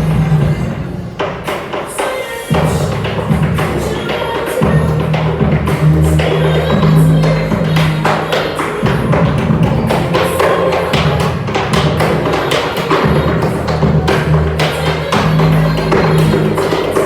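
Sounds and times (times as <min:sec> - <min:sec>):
backing music with bass line: 0:00.0 - 0:01.6, 0:02.5 - 0:17.0.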